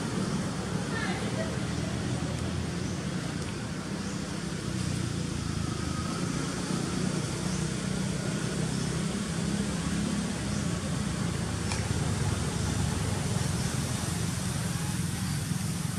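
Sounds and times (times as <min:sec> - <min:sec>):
motor vehicle rumble: 0:00.0 - 0:15.9.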